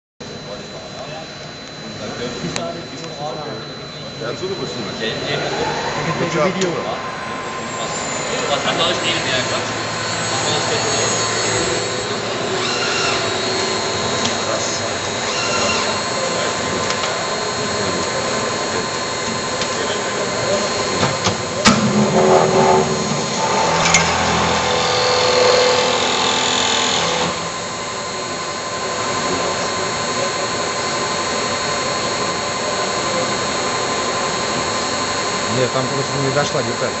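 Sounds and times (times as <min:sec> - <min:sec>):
machine tool humming: 0:00.2 - 0:37.0
machining whine: 0:00.2 - 0:37.0.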